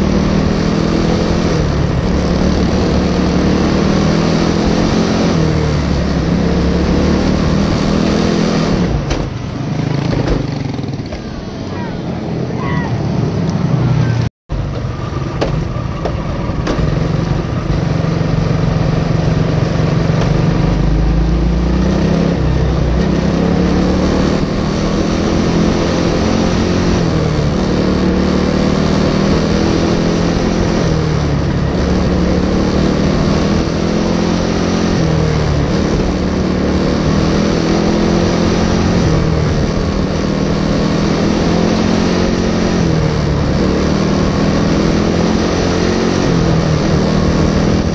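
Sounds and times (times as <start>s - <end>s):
kart engine accelerating: 0.0s - 47.9s.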